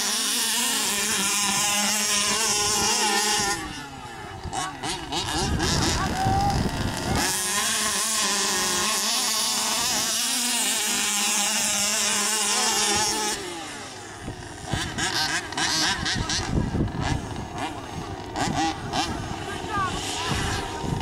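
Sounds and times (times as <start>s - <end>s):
two-stroke engines buzzing: 0.0s - 21.0s
uneven choppy engine sound: 0.0s - 21.0s.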